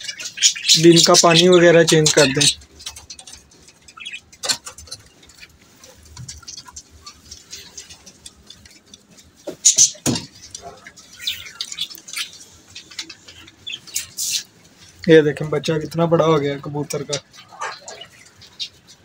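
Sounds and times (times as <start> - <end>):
bird cage rattling: 0.0 - 19.0.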